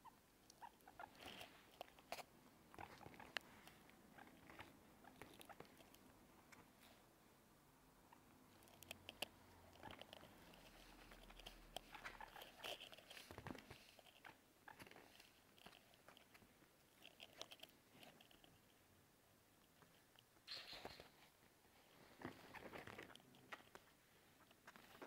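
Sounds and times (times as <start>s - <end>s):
guinea pig scurrying: 0.5s - 7.0s, 8.1s - 18.8s, 19.6s - 25.0s.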